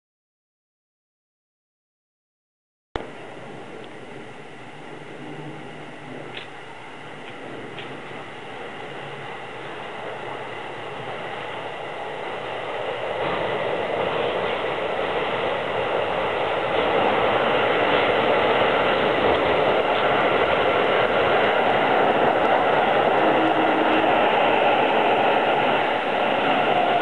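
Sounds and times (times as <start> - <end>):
electric train rolling into station: 3.0 - 27.0.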